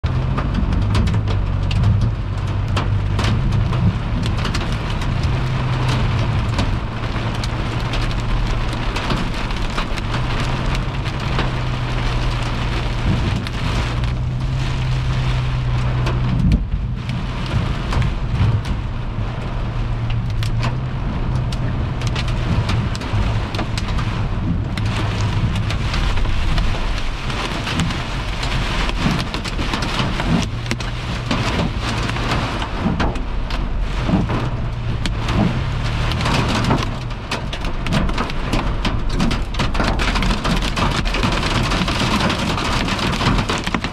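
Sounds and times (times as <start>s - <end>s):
hail and rain on car roof: 0.0s - 43.9s.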